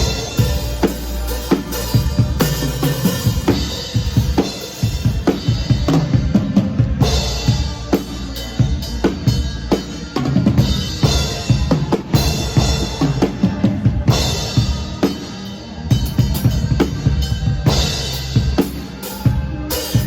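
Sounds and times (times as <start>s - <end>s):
live band music: 0.0s - 20.0s.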